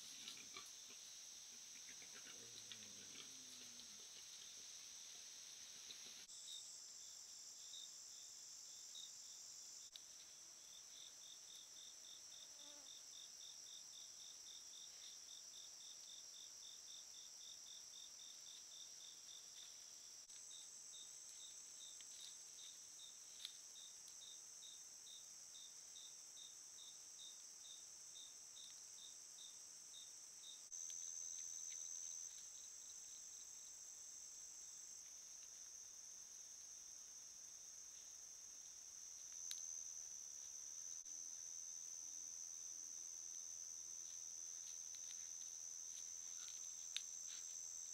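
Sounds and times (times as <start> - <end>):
cricket chirping: 0.0 - 47.9
insects trilling: 0.0 - 47.9.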